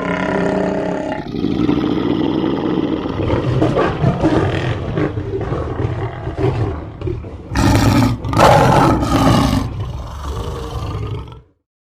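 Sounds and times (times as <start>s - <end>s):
lion roaring and grunting: 0.0s - 11.6s.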